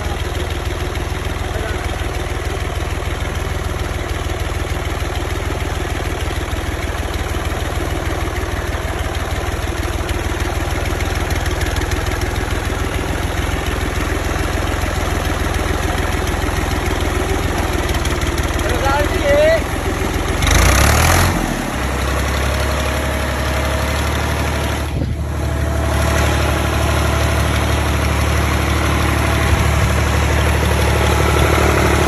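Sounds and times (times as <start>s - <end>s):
diesel tractor engine rumble: 0.0s - 32.0s.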